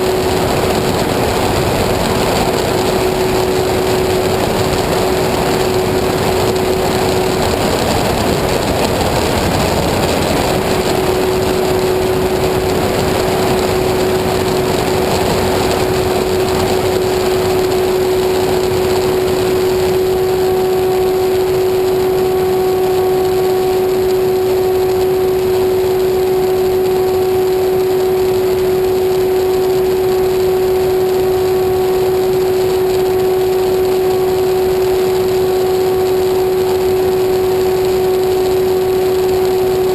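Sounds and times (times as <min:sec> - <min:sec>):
small aircraft engine running: 0:00.0 - 0:39.9.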